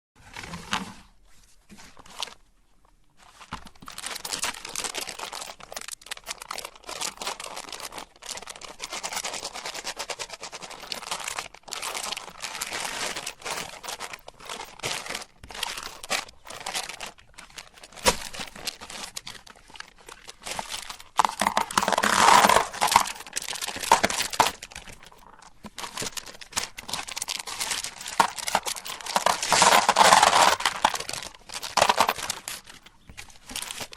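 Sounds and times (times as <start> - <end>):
candy crunching in a meat grinder: 3.7 - 33.9.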